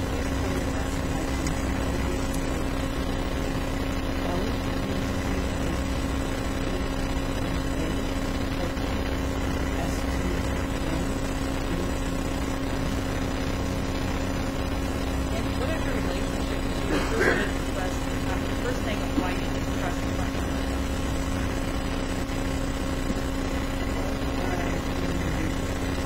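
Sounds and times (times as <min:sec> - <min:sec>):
constant low tone: 0:00.0 - 0:26.0
room tone hum and hiss: 0:00.0 - 0:26.0.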